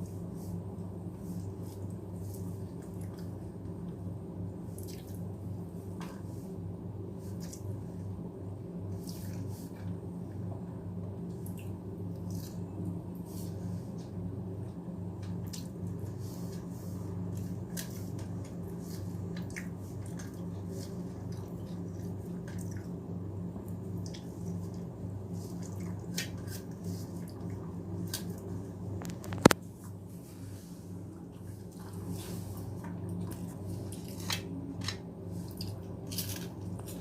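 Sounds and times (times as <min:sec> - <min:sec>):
squishing of food: 0:00.0 - 0:37.0
steady low hum: 0:00.0 - 0:37.0.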